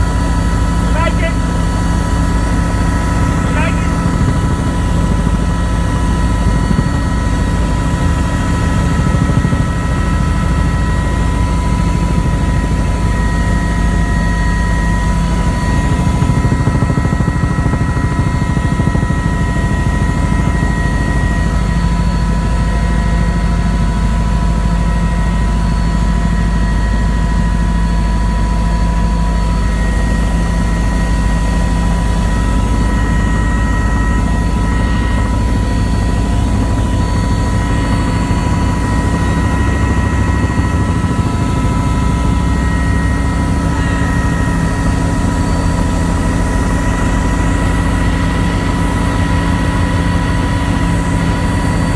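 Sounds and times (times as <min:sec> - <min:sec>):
helicopter rotor and engine noise: 0:00.0 - 0:51.9
steady whining tones: 0:00.0 - 0:51.9.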